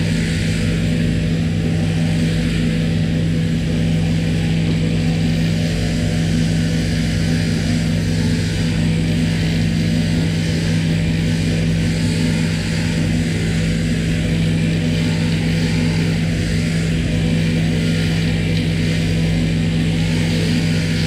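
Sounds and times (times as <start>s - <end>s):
shearing machine hum: 0.0s - 21.0s.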